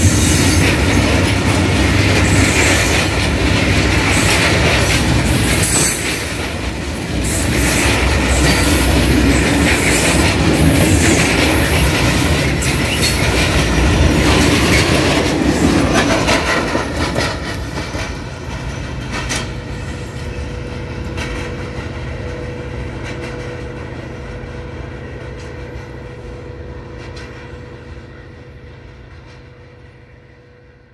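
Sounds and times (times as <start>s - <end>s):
freight train wheels clattering: 0.0s - 29.9s.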